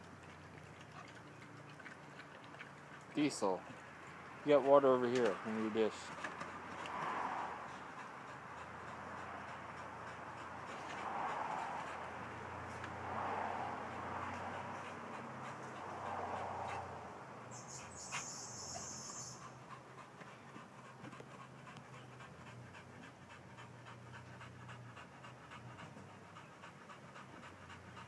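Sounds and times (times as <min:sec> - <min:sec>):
dog panting: 0:00.1 - 0:28.0.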